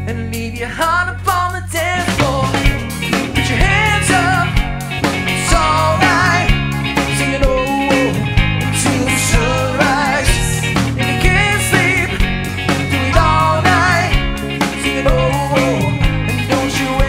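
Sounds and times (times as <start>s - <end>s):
drum kit: 0.0s - 17.0s
electric guitar: 0.0s - 17.0s
man singing: 0.0s - 17.0s
steady low bass notes: 0.0s - 17.0s.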